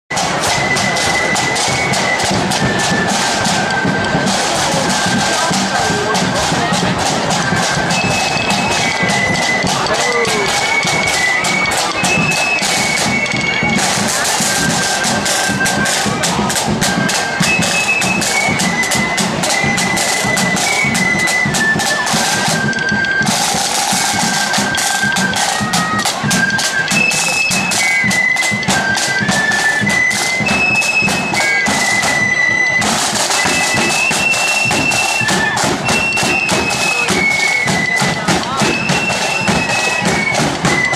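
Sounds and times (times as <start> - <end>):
flute melody: 0.1 - 40.9
snare drum rolls: 0.1 - 40.9.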